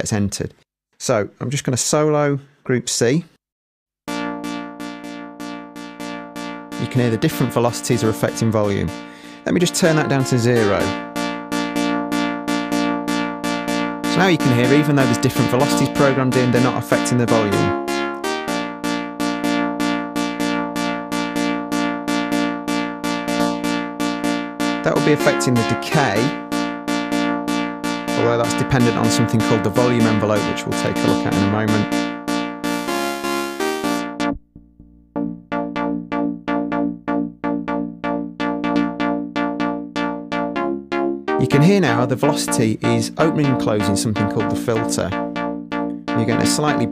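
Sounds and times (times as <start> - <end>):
repeated synth lead note: 4.1 - 46.9.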